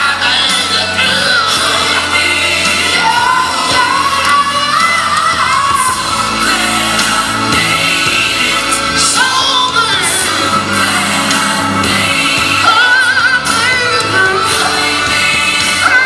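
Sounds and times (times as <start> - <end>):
backing band playing gospel: 0.0 - 16.0
man singing: 0.0 - 16.0.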